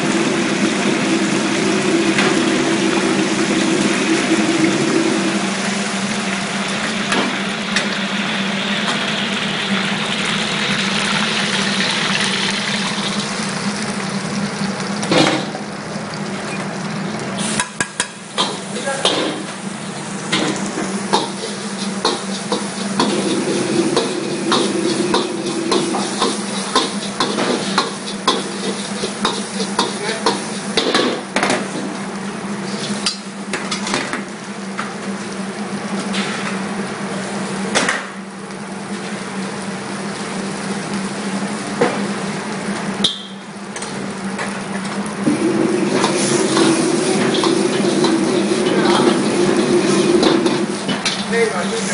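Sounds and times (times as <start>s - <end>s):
crabs sizzling in hot oil: 0.0s - 51.9s.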